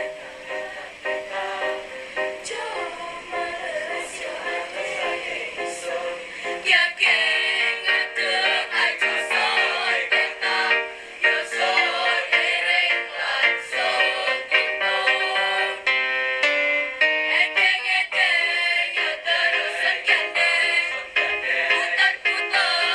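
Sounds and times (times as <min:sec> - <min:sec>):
children's choir singing: 0:00.0 - 0:15.9, 0:17.3 - 0:22.9.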